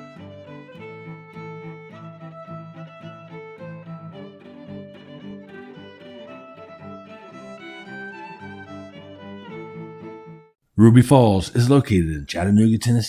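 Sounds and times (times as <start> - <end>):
gentle bowed string melody: 0.0 - 10.6.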